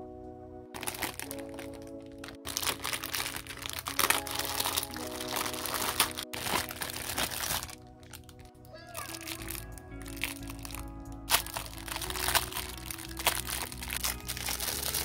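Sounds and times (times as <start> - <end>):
soft lo-fi music: 0.0 - 15.0
plastic bag crinkling: 0.8 - 15.0.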